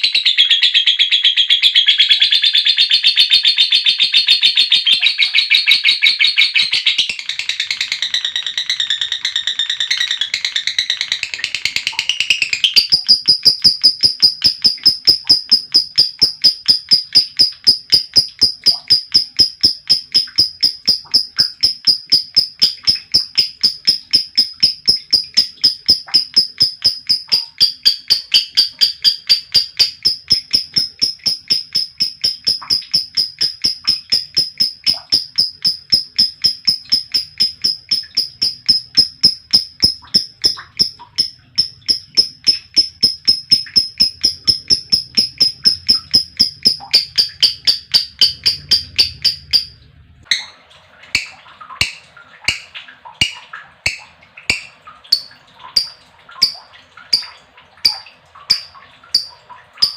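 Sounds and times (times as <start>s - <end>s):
lovebird chirping: 0.0s - 50.5s.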